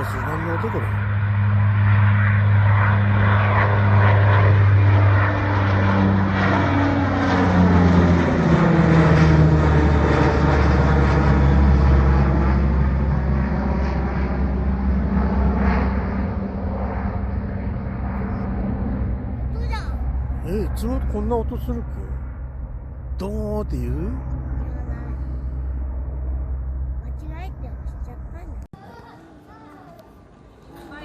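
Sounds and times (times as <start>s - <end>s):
jet engines passing overhead: 0.0s - 31.0s.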